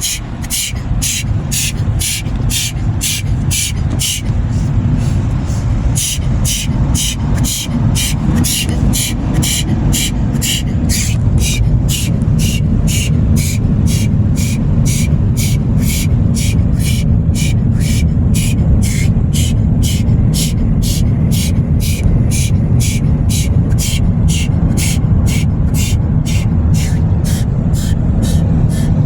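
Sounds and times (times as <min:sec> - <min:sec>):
car wash machinery rumble: 0:00.0 - 0:29.0
sharp hissing pulses: 0:00.0 - 0:29.0.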